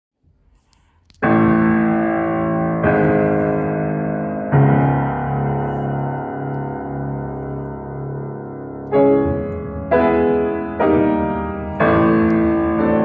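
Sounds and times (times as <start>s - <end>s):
piano chords ringing: 1.2s - 13.0s.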